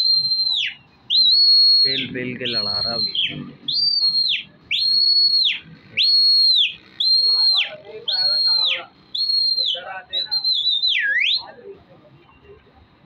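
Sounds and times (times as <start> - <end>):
shrill whistles: 0.0 - 11.6.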